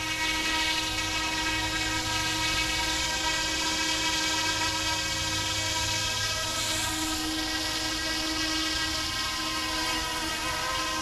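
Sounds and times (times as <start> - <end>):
rc helicopter rotor whine: 0.0 - 11.0.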